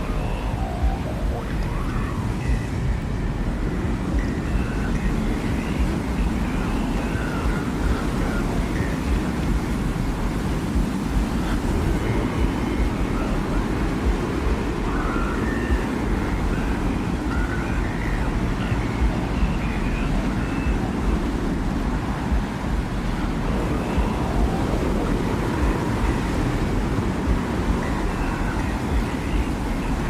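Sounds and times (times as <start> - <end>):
faint wavering whistles: 0.0 - 30.0
low rumbling wind: 0.0 - 30.0.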